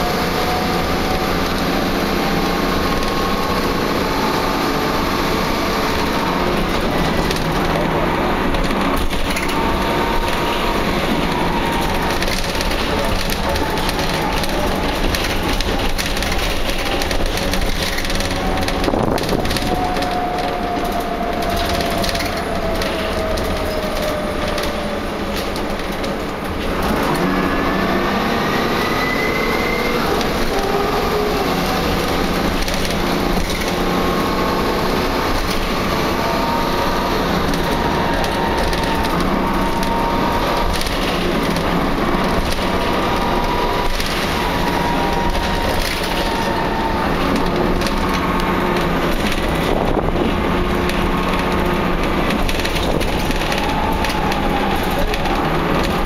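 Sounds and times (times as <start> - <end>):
bus body rattling: 0.0 - 56.0
bus engine whining: 0.0 - 56.0.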